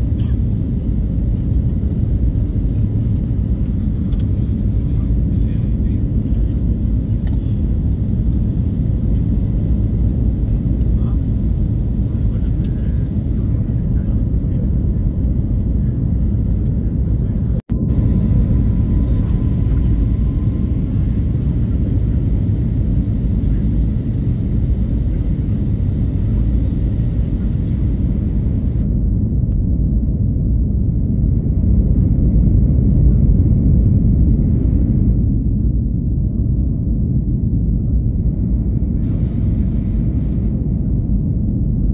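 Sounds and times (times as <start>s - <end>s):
airliner cabin engine rumble: 0.0s - 41.9s.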